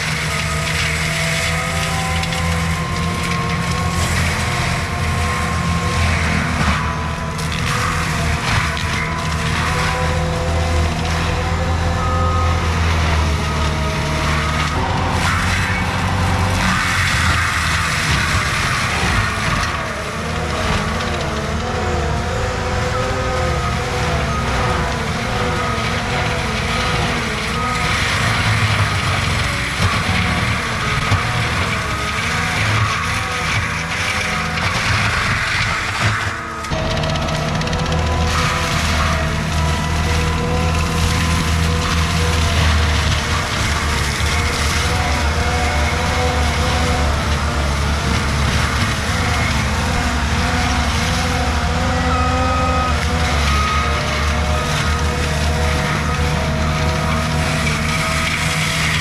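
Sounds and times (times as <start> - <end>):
engine running hard: 0.0 - 59.0
wavering whines: 0.0 - 59.0.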